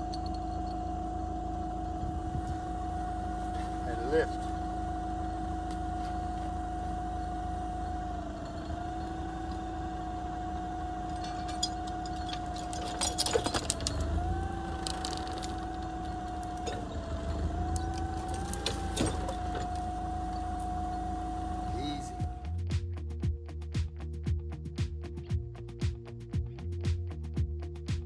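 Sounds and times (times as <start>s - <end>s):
forklift engine humming: 0.0s - 22.8s.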